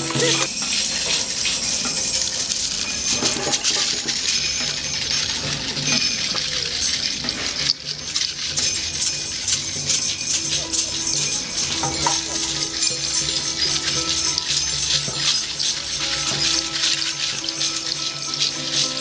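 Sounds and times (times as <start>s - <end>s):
jingling hand percussion: 0.0s - 19.0s.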